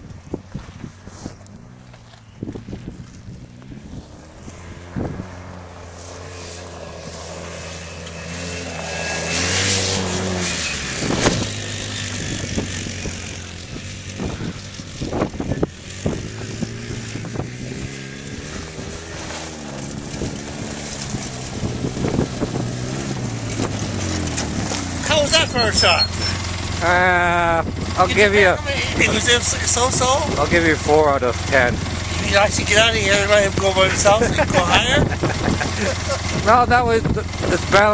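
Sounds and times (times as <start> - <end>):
off-road vehicle engine revving: 0.0 - 37.9.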